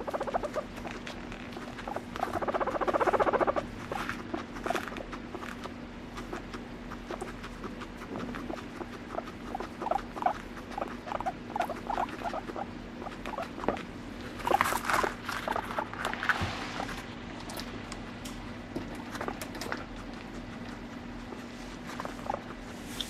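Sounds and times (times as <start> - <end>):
guinea pig soft calls: 0.0 - 23.0.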